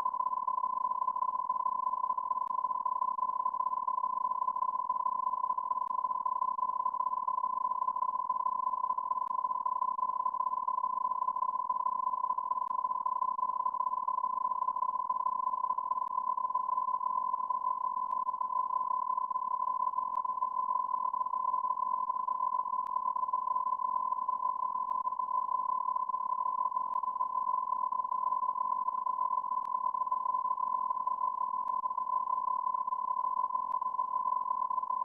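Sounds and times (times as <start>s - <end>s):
steady electronic beep tone: 0.0s - 35.0s.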